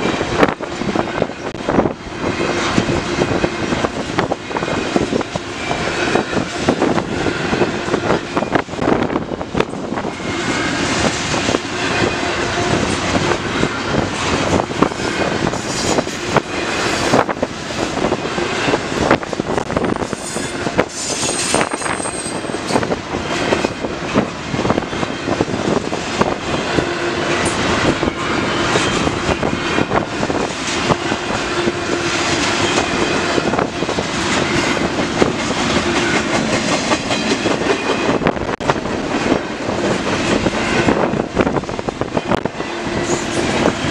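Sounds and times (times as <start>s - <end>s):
train wheel squeal: 0.0s - 38.4s, 39.3s - 43.9s
freight train rumbling past: 0.0s - 43.9s.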